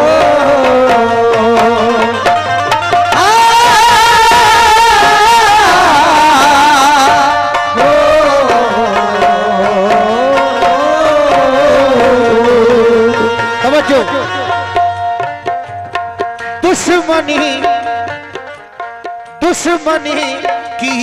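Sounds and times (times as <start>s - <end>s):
harmonium drone: 0.0s - 21.0s
tabla strokes: 0.0s - 21.0s
wordless sung melody: 0.0s - 21.0s.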